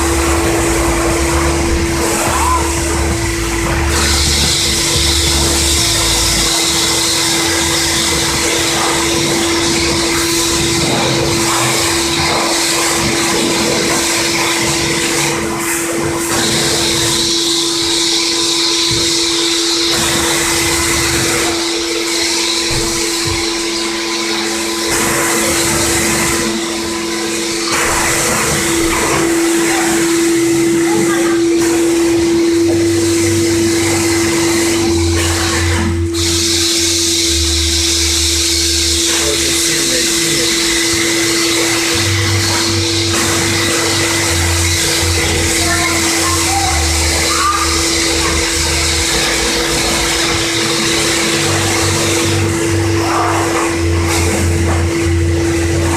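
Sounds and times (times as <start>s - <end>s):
pressure washer hum: 0.0s - 55.9s.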